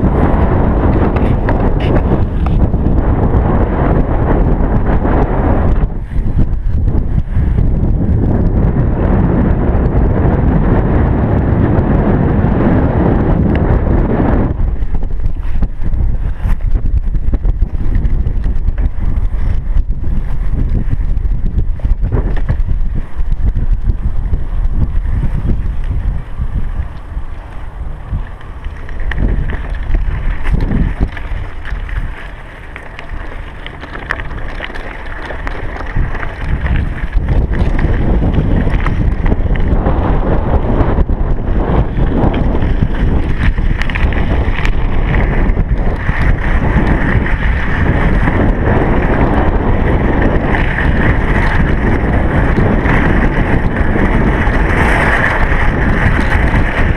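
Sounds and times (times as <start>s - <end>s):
bicycle tyre and road noise: 0.0s - 56.9s
wind buffeting microphone: 0.0s - 56.9s.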